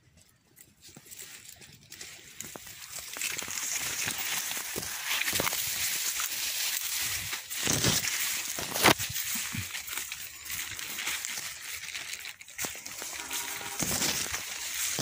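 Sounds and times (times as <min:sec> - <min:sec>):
footsteps crunching dry leaves: 0:00.6 - 0:15.0
stalk snapping: 0:02.4 - 0:15.0.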